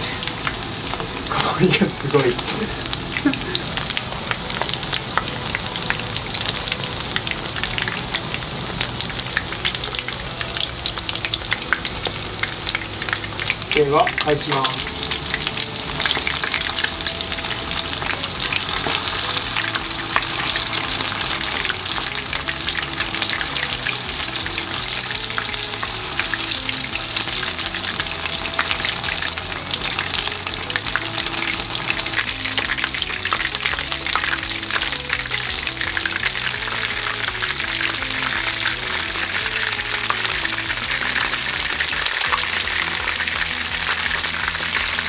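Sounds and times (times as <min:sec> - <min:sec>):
chicken sizzling in hot oil: 0:00.0 - 0:45.0
light background music: 0:00.0 - 0:45.0.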